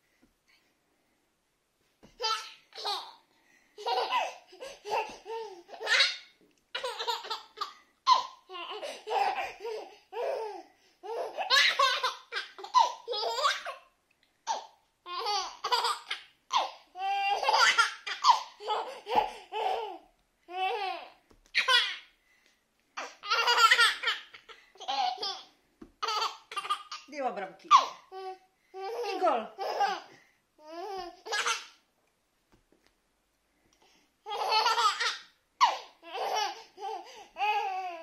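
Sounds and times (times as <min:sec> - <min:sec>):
baby laughing: 0:02.2 - 0:03.2, 0:03.8 - 0:13.9, 0:14.5 - 0:22.1, 0:23.0 - 0:27.1, 0:27.7 - 0:31.8, 0:34.3 - 0:38.0.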